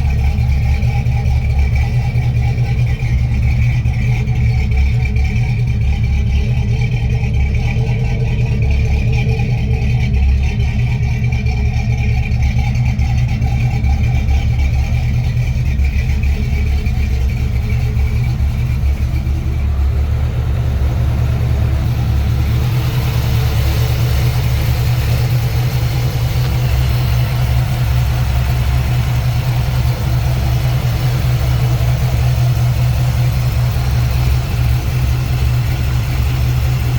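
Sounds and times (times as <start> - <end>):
pickup engine running: 0.0 - 36.9.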